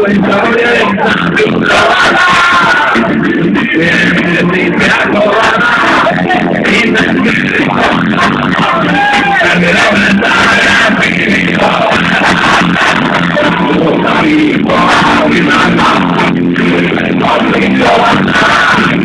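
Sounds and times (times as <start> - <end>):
electric guitar: 0.0 - 19.0
live band playing loud music: 0.0 - 19.0
person singing: 0.0 - 19.0.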